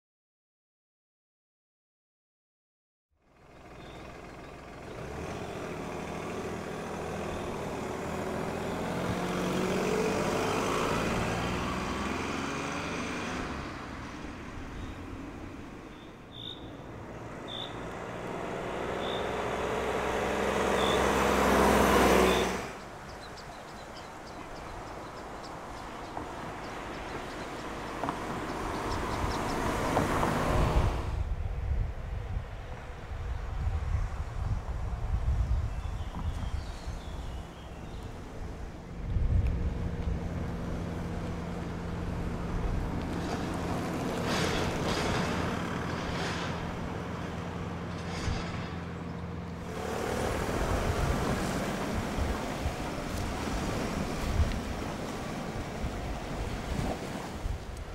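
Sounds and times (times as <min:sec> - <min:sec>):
car engine approaching: 0:03.2 - 0:57.9.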